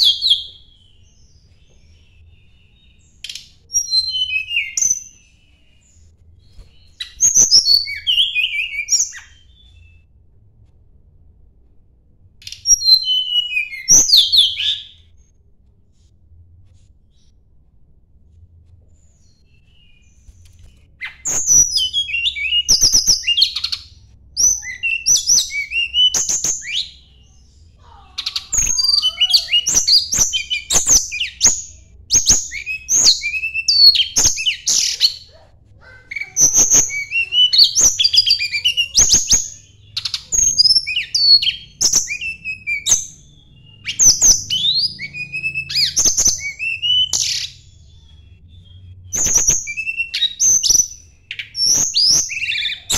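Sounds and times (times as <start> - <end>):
bird singing chirps and whistles: 0.0 - 10.0, 12.4 - 15.0, 19.2 - 52.9.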